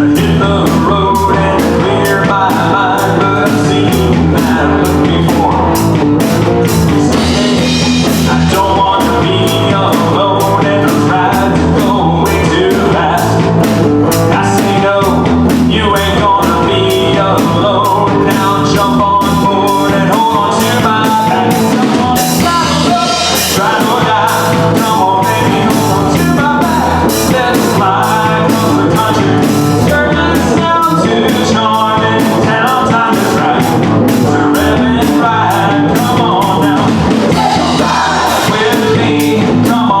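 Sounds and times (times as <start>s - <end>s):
band playing country-rock: 0.0s - 40.0s
drum kit beat: 0.0s - 40.0s.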